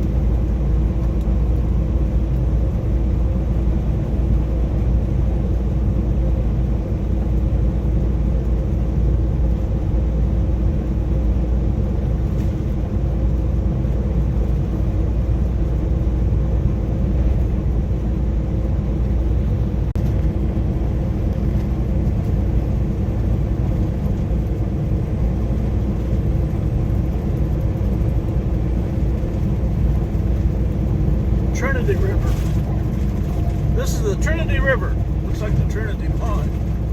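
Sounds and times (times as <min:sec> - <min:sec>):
truck engine and road noise: 0:00.0 - 0:36.9.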